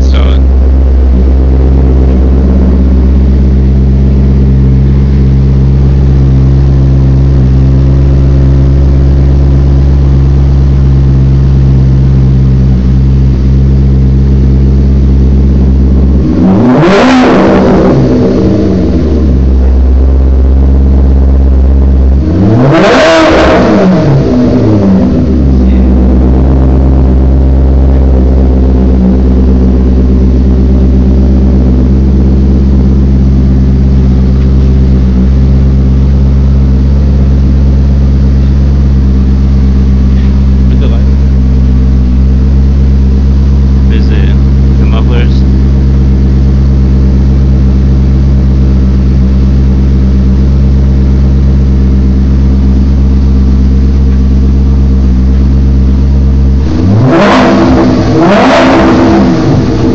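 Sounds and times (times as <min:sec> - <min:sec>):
car engine idling loudly: 0:00.0 - 0:59.9
car engine revving: 0:00.0 - 0:59.9.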